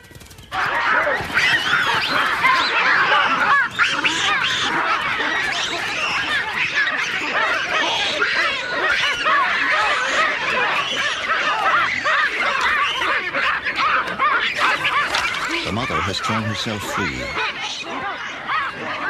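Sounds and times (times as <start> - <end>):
baboons screaming: 0.0 - 19.0.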